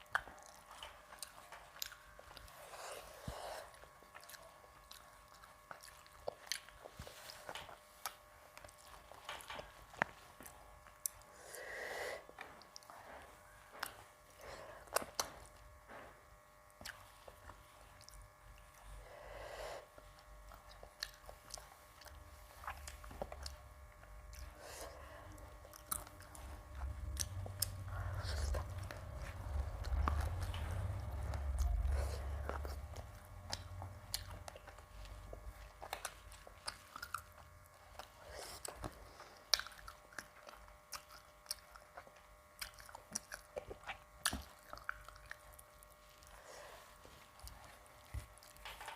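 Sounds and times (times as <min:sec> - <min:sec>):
chewing and biting food: 0:00.0 - 0:11.5, 0:12.2 - 0:48.9.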